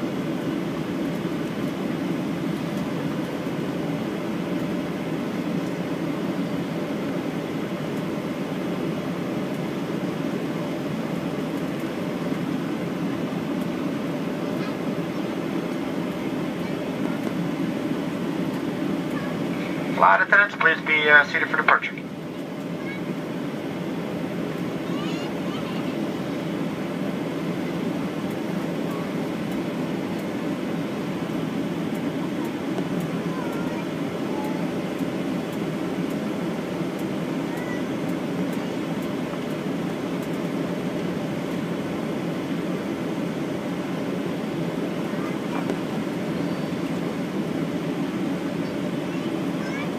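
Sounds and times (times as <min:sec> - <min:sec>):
cabin air flow: 0:00.0 - 0:49.9
jet engines idling low rumble: 0:00.0 - 0:49.9.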